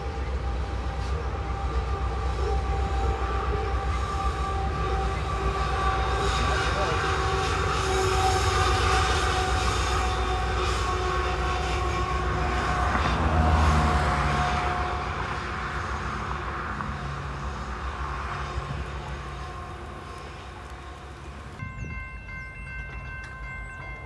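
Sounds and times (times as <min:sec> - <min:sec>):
diesel locomotive engine: 0:00.0 - 0:24.0
freight train rumbling on bridge: 0:00.0 - 0:24.0.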